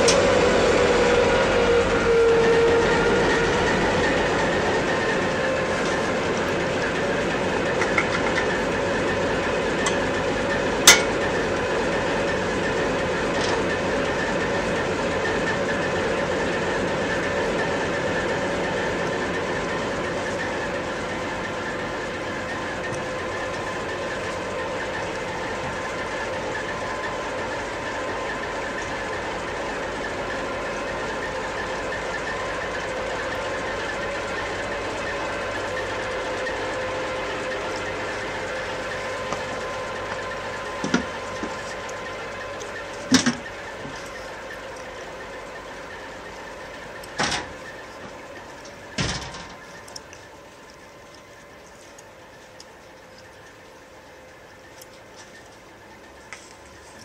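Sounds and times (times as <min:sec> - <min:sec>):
steady mechanical drone: 0:00.0 - 0:57.0.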